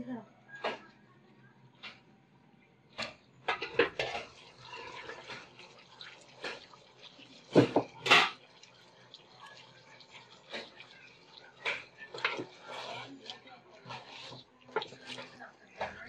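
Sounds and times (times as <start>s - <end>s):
food pieces pattering into curry: 2.9s - 16.0s.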